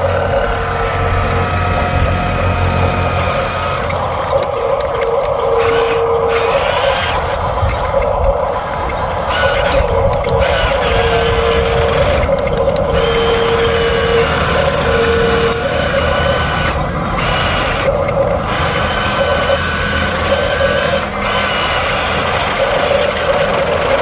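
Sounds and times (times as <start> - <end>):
toy bulldozer motors whining: 0.0 - 24.0.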